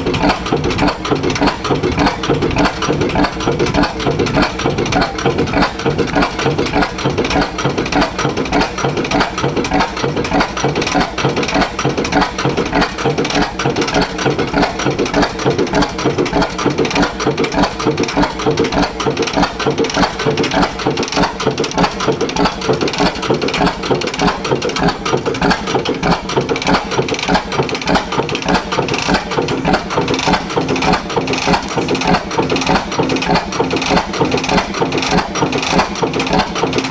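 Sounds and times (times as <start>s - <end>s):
oil engine running steadily: 0.0s - 36.9s.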